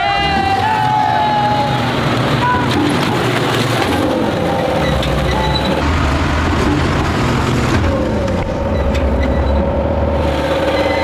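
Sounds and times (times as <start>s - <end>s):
diesel engine running under load: 0.3s - 11.0s.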